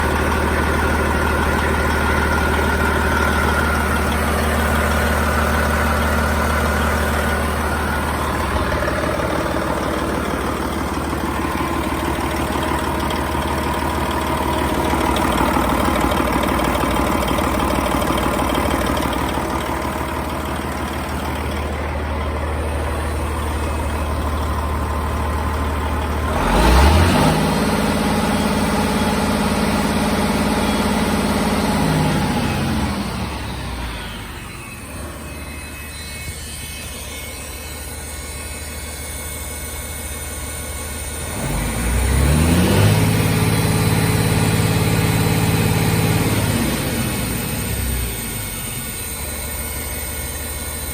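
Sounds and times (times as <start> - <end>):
diesel engine idling: 0.0 - 50.9
diesel engine surging: 0.0 - 50.9.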